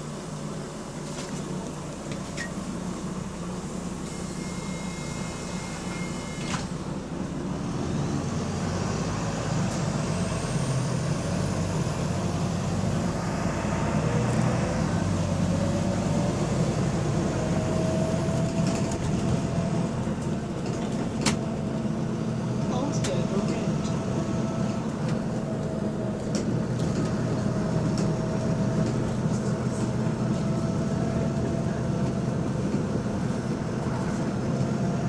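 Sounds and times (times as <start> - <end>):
bus diesel engine accelerating: 0.0 - 35.0.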